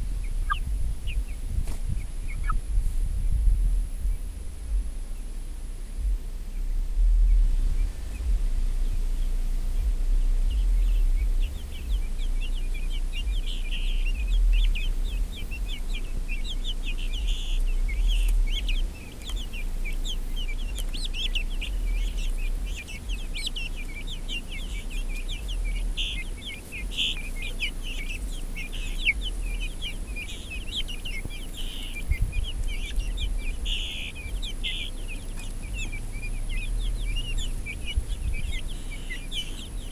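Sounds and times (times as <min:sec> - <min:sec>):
chicks cheeping: 0:00.0 - 0:39.9
low rumble: 0:00.0 - 0:39.9.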